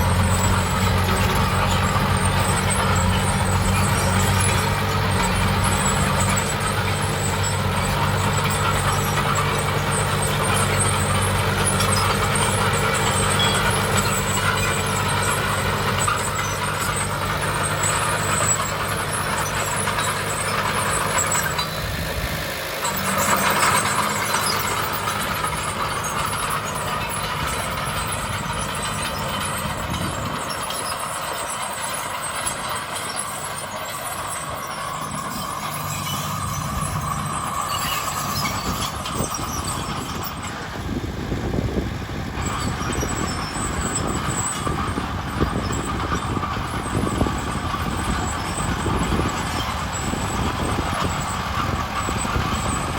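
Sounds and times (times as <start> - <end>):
heavy diesel engines running: 0.0 - 52.9
rough engine rumble: 0.0 - 52.9.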